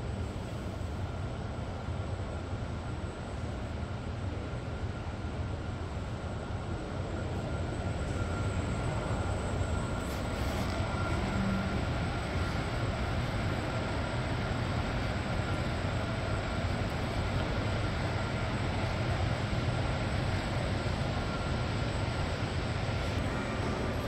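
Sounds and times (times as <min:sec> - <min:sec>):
faint high whine: 0:00.0 - 0:24.0
ventilation hum and rushing air: 0:00.0 - 0:24.0.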